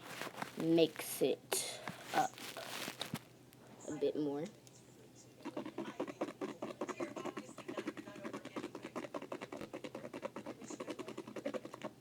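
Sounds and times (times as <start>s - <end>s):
slime being stirred: 0.0s - 3.2s, 5.4s - 12.0s.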